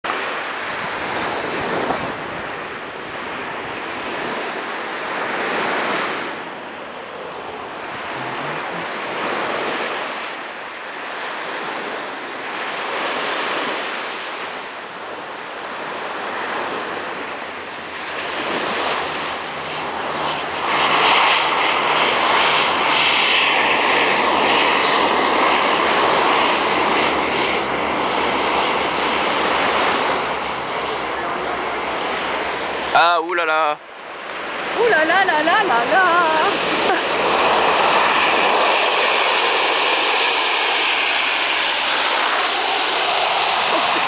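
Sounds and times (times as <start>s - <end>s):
propeller aircraft engines droning: 0.0s - 44.0s
wind on microphone: 0.1s - 33.0s, 33.8s - 44.0s
surf washing onto beach: 0.1s - 44.0s.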